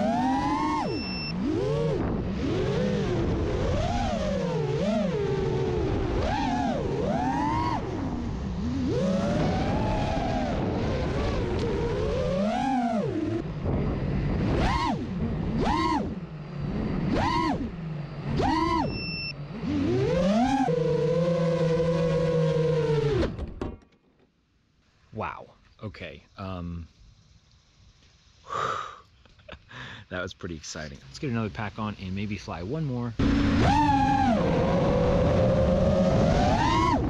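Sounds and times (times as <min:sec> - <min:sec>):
drone motors whining: 0:00.0 - 0:23.6, 0:30.9 - 0:37.0.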